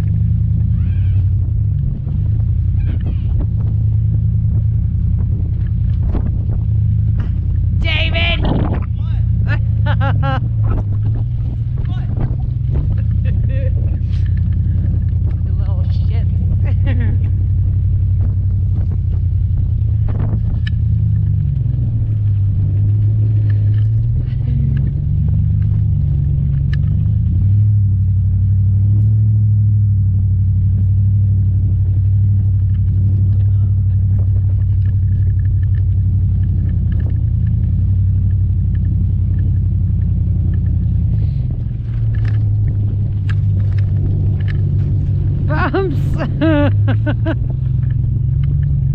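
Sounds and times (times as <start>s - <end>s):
pickup truck engine rumbling: 0.0s - 48.9s.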